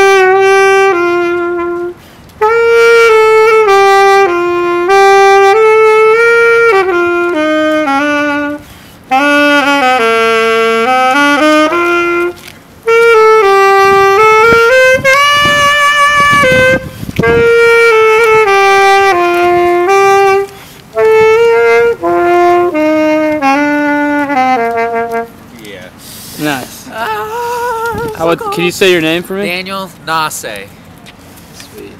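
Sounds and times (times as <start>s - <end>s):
solo saxophone melody: 0.0s - 29.5s.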